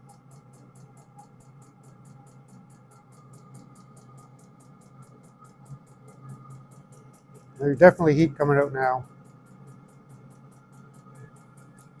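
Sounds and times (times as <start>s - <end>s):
heater fan whir and hum: 0.0s - 12.0s.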